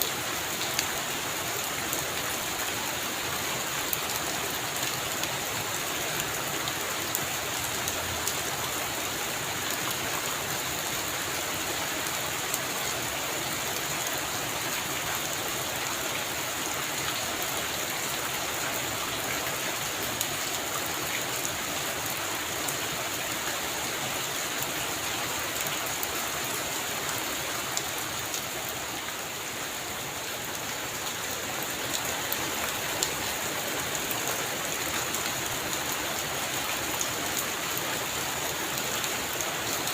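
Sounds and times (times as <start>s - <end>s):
heavy rain on a roof: 0.0s - 39.9s
raindrops ticking nearby: 0.0s - 39.9s.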